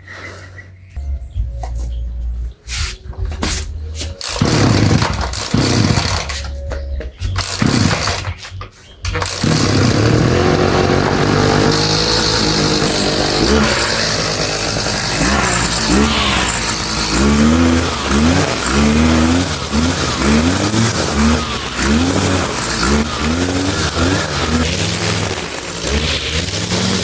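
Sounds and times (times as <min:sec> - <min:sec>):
small petrol engine: 0:04.2 - 0:06.6, 0:07.3 - 0:27.0.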